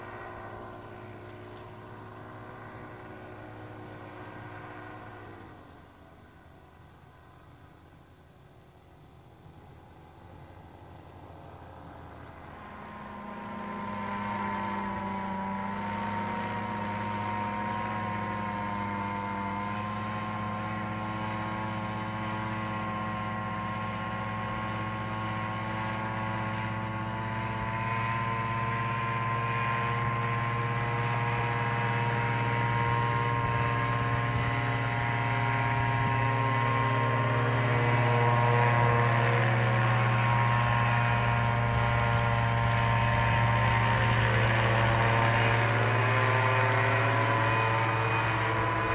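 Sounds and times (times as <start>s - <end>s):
paramotor engine and propeller: 0.0s - 48.9s.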